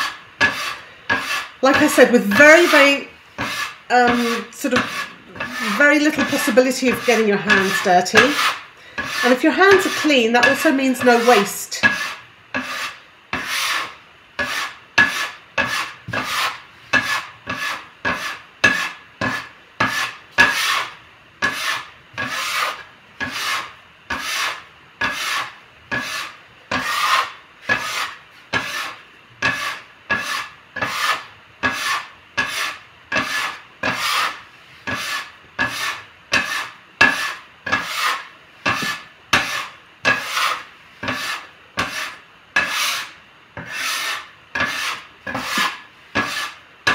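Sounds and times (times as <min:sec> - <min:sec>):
bench scraper on wooden board: 0:00.0 - 0:46.9.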